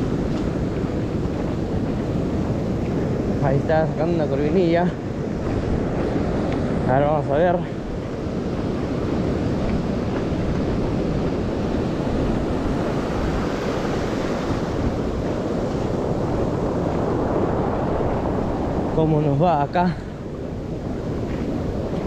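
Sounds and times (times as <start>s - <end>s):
ocean surf: 0.0s - 22.0s
wind buffeting microphone: 0.0s - 22.0s.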